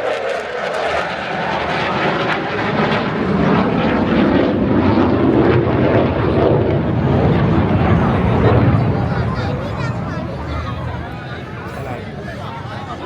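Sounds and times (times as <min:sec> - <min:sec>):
fighter jet flying by: 0:00.0 - 0:13.0.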